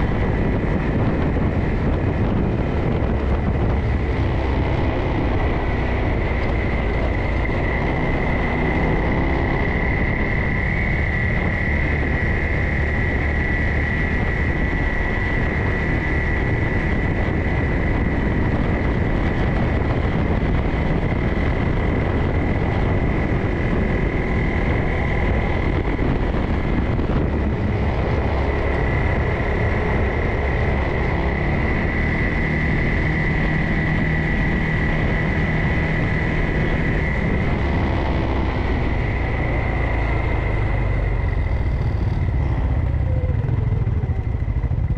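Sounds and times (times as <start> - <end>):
high whine: 0.0 - 44.9
vehicle engine running: 0.0 - 44.9.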